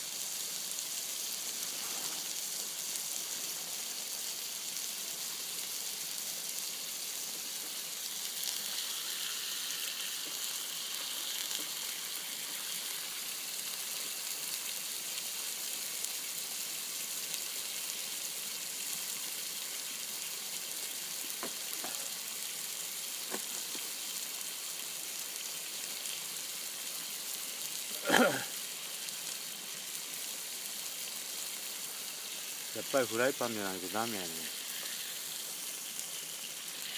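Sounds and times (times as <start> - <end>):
meat sizzling in fat: 0.0 - 36.9.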